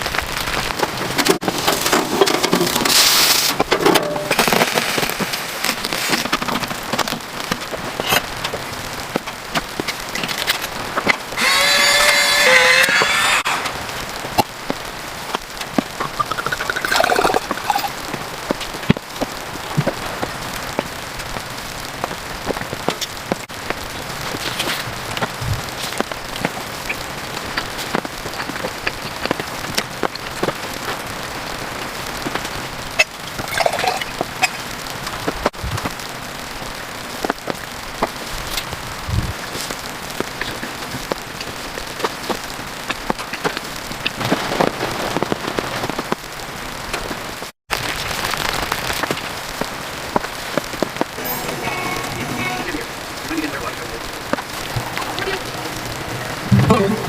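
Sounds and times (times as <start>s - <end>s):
rain pattering: 0.0s - 11.4s, 13.4s - 57.0s.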